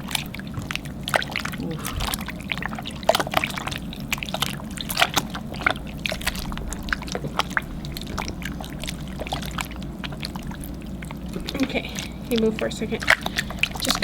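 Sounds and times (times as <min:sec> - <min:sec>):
slime squelching in a bowl: 0:00.0 - 0:14.0.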